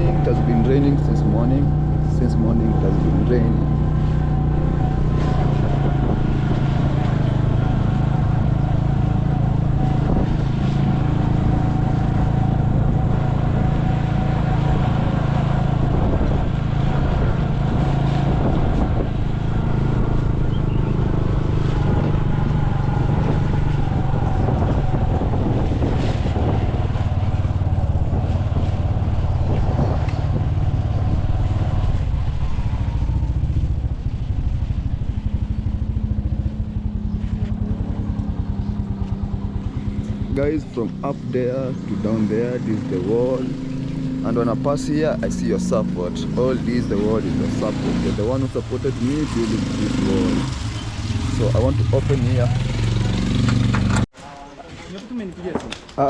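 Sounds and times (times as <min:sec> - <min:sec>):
vehicle engine humming: 0:00.0 - 0:54.1.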